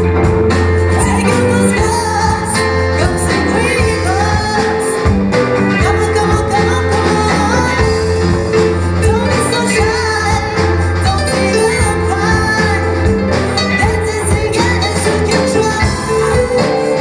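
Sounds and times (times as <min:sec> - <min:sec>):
live guitar band music: 0:00.0 - 0:17.0
person singing: 0:00.0 - 0:17.0.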